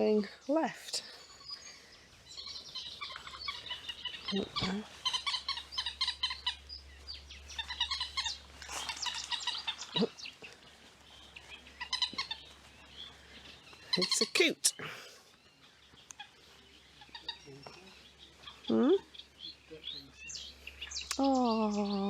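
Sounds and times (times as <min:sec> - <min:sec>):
low falling bird calls: 0:00.0 - 0:22.0
small birds chattering: 0:00.0 - 0:22.0.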